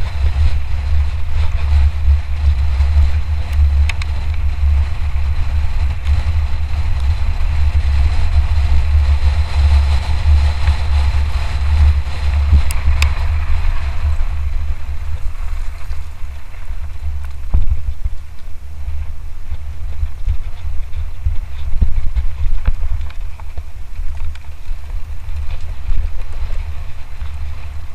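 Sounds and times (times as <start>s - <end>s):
mountain bike tyre and trail noise: 0.0s - 27.9s
wind rumble on microphone: 0.0s - 27.9s.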